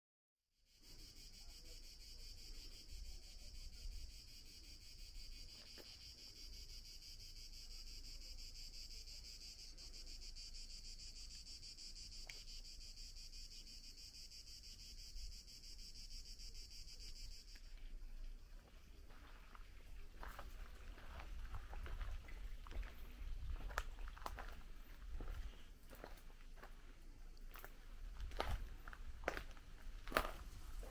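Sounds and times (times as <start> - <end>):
cicadas chirring: 0.7 - 30.9.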